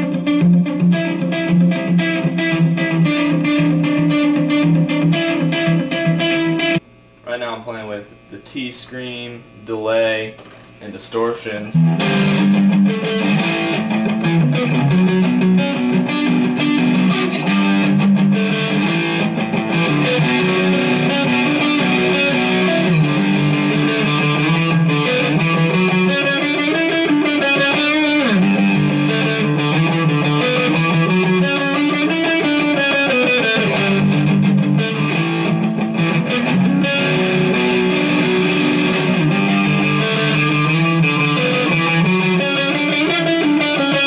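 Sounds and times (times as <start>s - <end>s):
distorted electric guitar: 0.0s - 7.4s, 10.3s - 44.0s.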